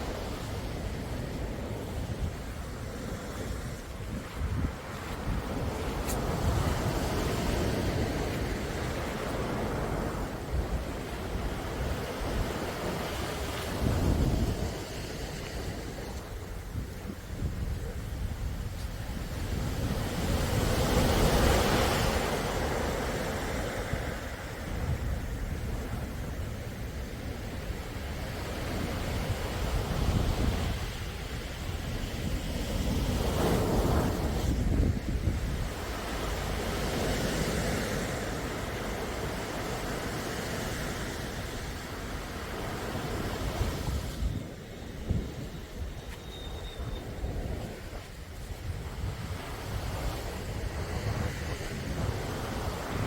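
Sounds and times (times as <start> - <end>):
sea waves washing in: 0.0 - 53.0
wind rumble on microphone: 0.0 - 53.0.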